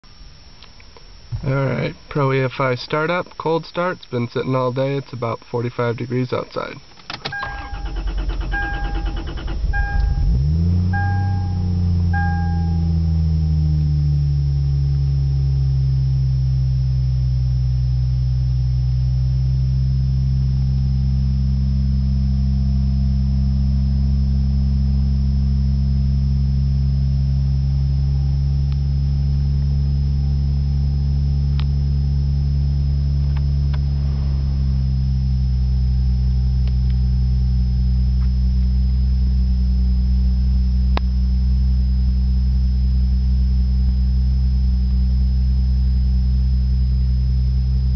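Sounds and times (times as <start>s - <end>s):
car engine idling: 7.2s - 19.2s, 20.1s - 47.8s.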